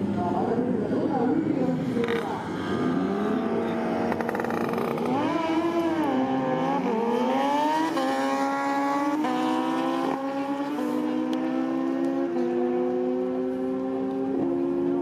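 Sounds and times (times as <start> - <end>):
motorcycle engine revving: 1.9 - 15.0.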